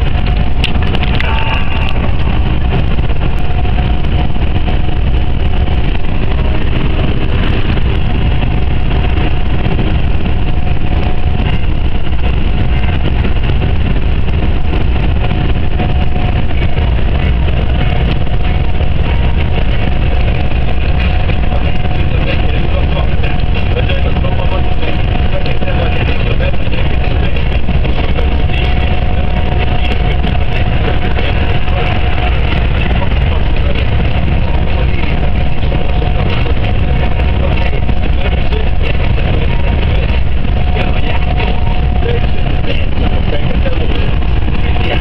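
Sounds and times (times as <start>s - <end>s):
diesel truck engine drone: 0.0s - 45.0s
road noise: 0.0s - 45.0s.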